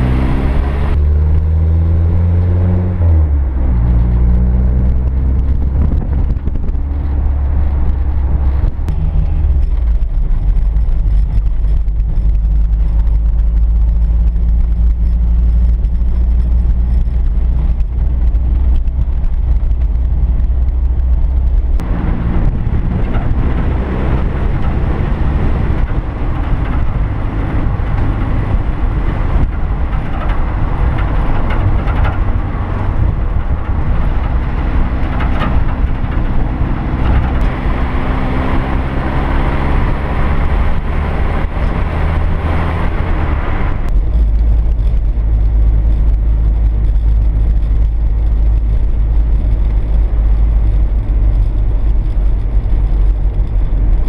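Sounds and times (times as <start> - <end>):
car engine driving: 0.0 - 54.0
engine rumble inside car cabin: 0.0 - 54.0
wind rumble on microphone: 0.0 - 54.0.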